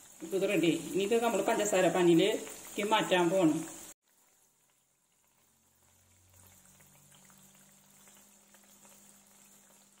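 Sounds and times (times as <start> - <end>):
oil bubbling and crackling: 0.0 - 10.0.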